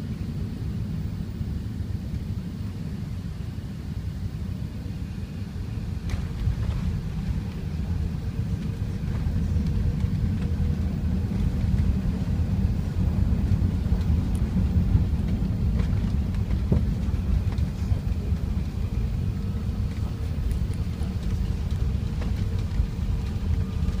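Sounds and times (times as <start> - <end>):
airplane cabin rumble: 0.0 - 24.0
faint steady hum: 0.0 - 24.0.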